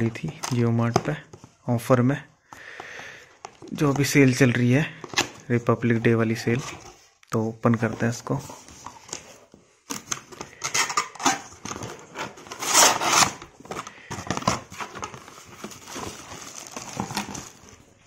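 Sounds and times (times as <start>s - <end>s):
cardboard and plastic rustling: 2.8s - 18.0s.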